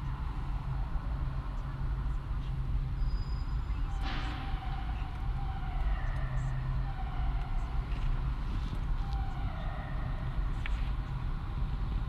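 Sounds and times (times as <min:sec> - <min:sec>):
traffic rumble in tunnel: 0:00.0 - 0:12.0.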